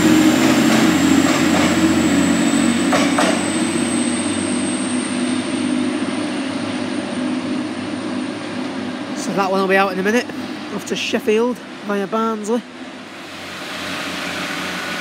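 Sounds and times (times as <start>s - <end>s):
diesel train engine drone: 0.0s - 15.0s.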